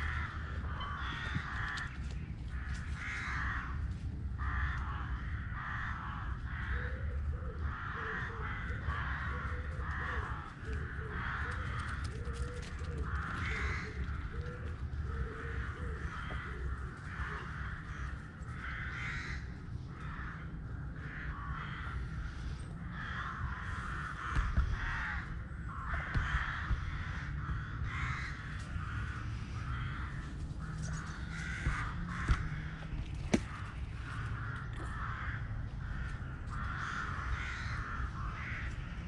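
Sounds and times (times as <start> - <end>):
crows cawing: 0.0 - 39.0
steady low rumble: 0.0 - 39.0.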